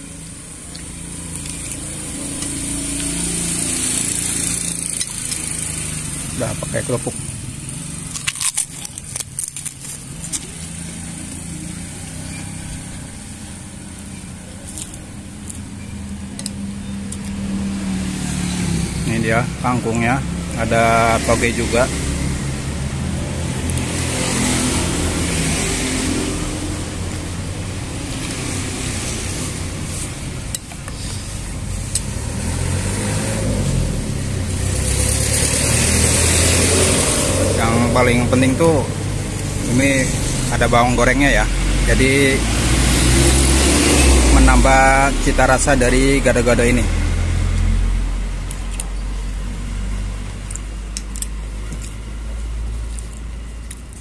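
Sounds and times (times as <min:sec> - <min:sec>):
vehicle engine humming: 0:00.0 - 0:54.0.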